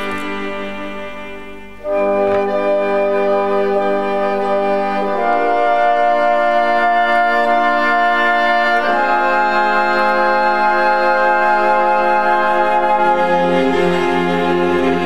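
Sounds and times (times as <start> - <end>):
slow held chords music: 0.0 - 15.0.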